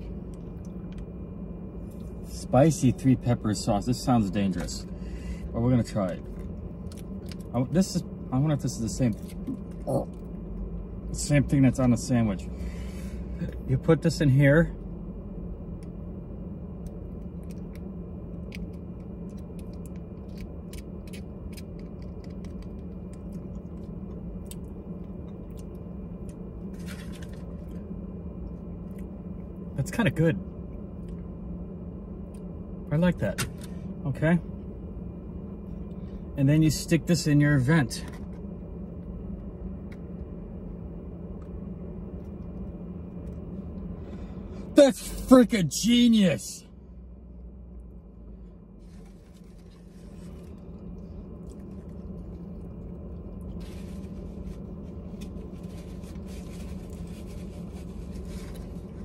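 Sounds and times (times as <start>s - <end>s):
car cabin hum: 0.0s - 59.0s.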